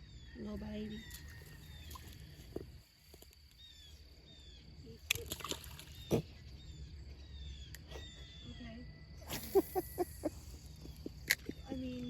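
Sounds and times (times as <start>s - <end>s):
high falling wildlife chirps: 0.0s - 5.0s, 5.7s - 12.0s.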